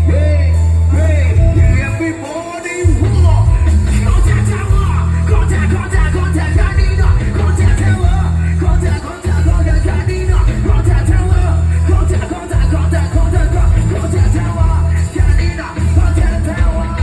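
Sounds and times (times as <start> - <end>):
loud band music with heavy bass: 0.0 - 17.0
person singing: 0.0 - 17.0.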